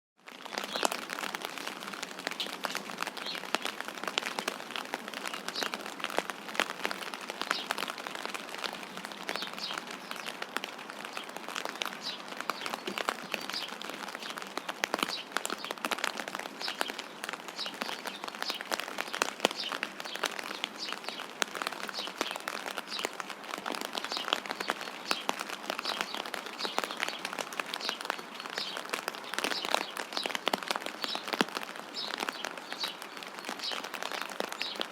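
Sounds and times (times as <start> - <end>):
rain pattering: 0.2 - 34.9
small birds chirping: 0.5 - 34.9.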